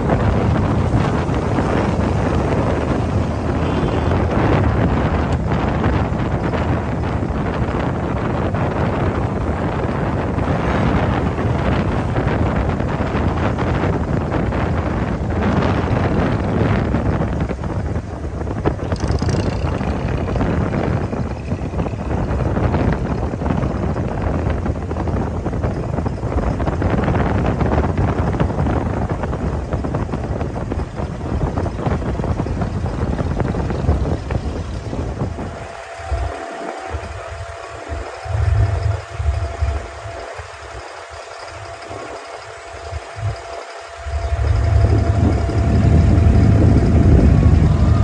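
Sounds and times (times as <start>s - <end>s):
boat engine throbbing: 0.0s - 48.0s
faint steady whine: 0.0s - 48.0s
wind rushing over microphone: 0.0s - 48.0s.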